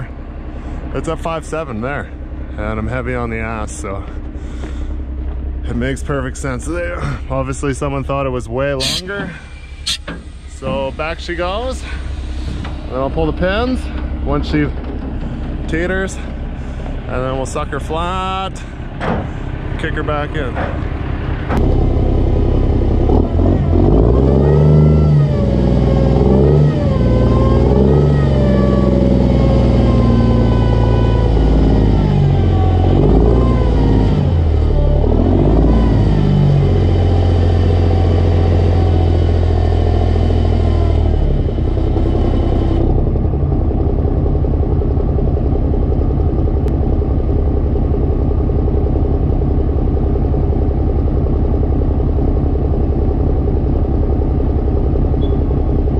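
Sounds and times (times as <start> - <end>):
diesel truck engine revving: 0.0 - 55.9.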